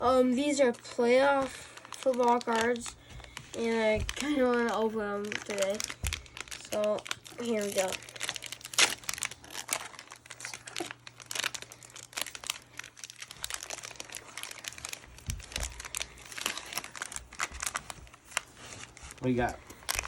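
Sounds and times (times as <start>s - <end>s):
card pack wrapper crinkling: 0.4s - 20.0s.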